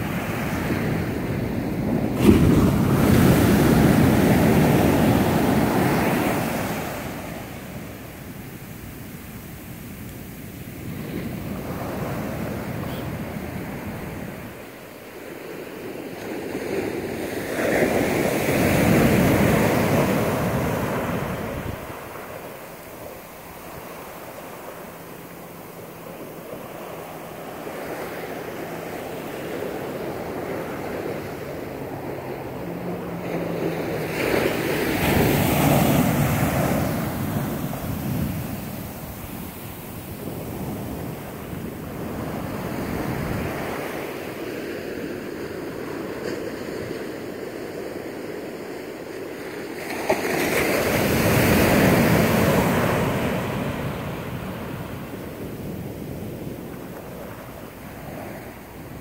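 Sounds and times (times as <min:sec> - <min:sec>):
surf washing up beach: 0:00.0 - 0:59.0
waves crashing: 0:00.0 - 0:59.0.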